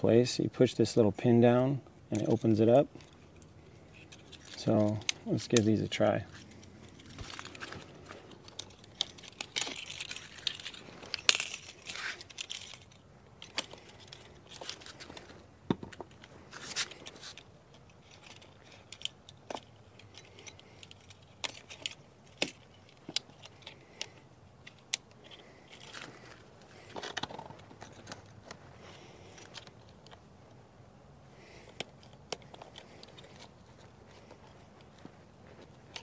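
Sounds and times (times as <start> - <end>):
hose couplings clicking and rattling: 2.1 - 30.3, 31.4 - 36.0.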